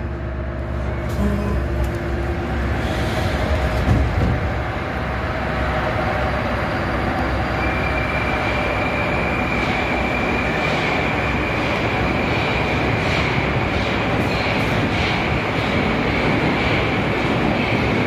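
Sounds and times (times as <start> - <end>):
metro train equipment hum: 0.0 - 18.0.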